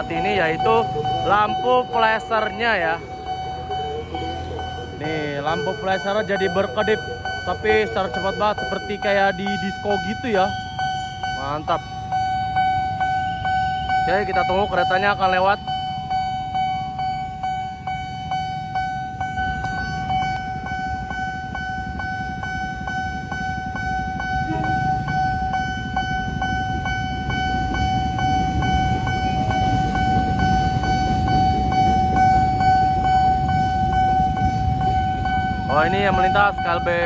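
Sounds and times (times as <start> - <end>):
idling motorbike traffic: 0.0 - 37.0
level crossing warning bell: 0.0 - 37.0
train rumbling past: 0.0 - 37.0.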